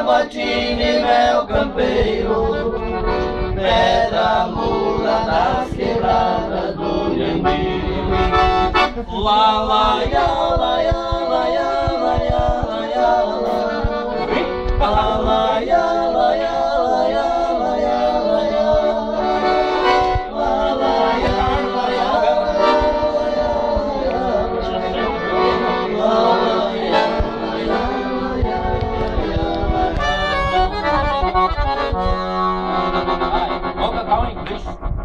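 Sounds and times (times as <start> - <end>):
accordion playing folk melody: 0.0 - 34.9.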